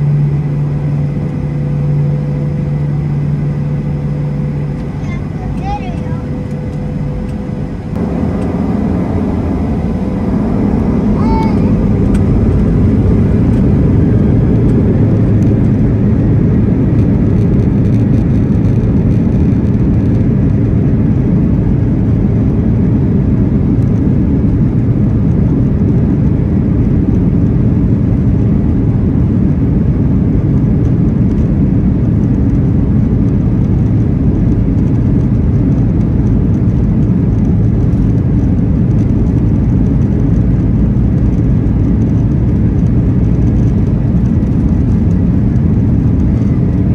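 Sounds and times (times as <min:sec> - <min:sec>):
jet engines low rumble: 0:00.0 - 0:46.9.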